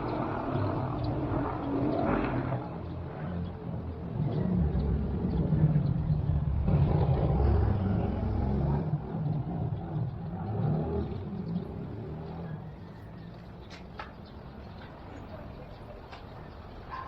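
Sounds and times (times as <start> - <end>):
vehicle engine low rumble: 0.0 - 16.9.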